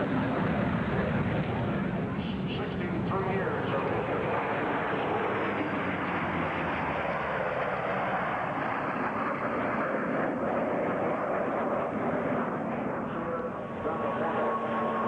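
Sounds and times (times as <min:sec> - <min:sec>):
jets roaring overhead: 0:00.0 - 0:15.0.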